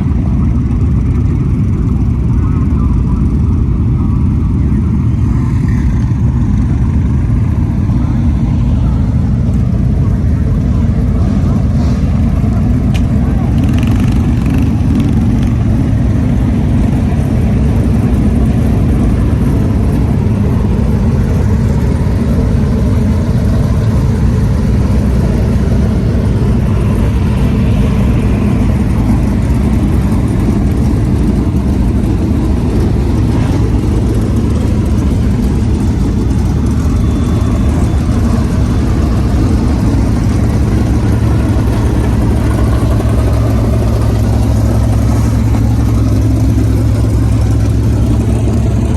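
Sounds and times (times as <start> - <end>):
higher engine note: 0.0 - 48.9
race car engines rumbling: 0.0 - 48.9.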